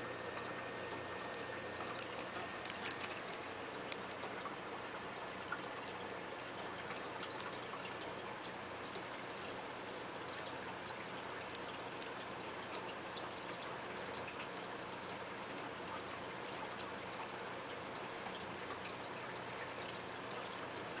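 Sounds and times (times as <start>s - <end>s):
water trickling into aquarium: 0.0s - 21.0s.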